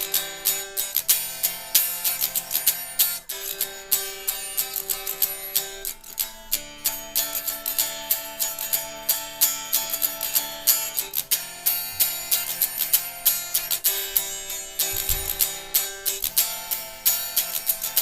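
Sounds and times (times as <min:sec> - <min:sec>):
guitar strumming: 0:00.0 - 0:18.0.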